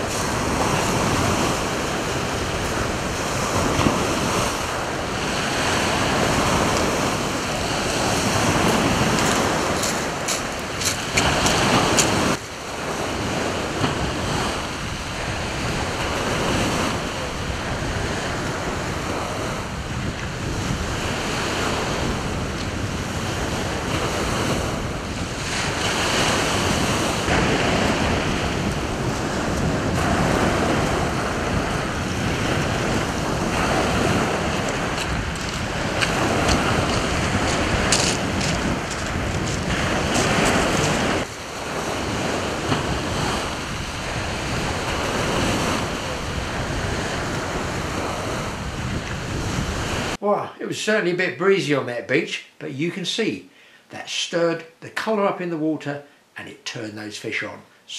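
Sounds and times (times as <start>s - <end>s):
surf breaking on shingle beach: 0.0s - 50.2s
wind buffeting microphone: 0.0s - 50.2s.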